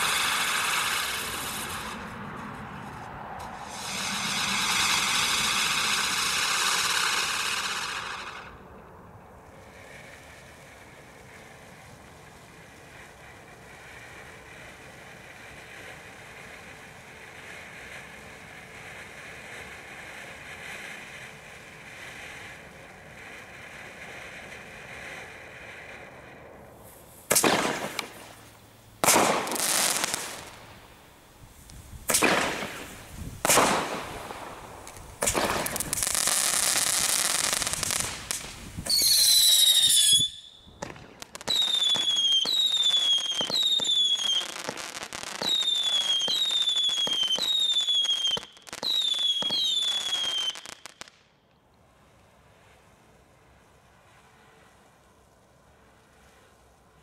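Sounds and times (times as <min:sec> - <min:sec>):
falling firework whistles: 0:00.0 - 0:08.8, 0:09.4 - 0:51.3
firework bangs: 0:00.0 - 0:51.2
firework hiss: 0:00.0 - 0:57.0.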